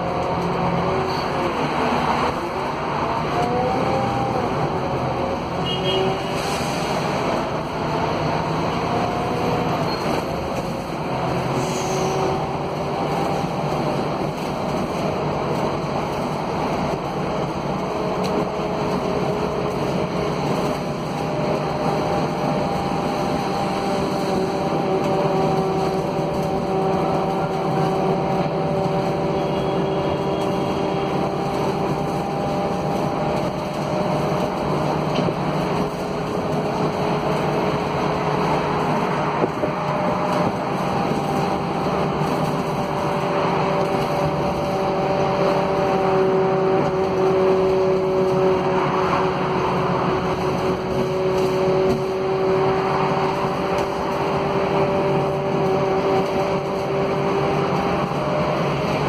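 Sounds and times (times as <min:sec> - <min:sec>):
bus engine and road noise: 0:00.0 - 0:59.0.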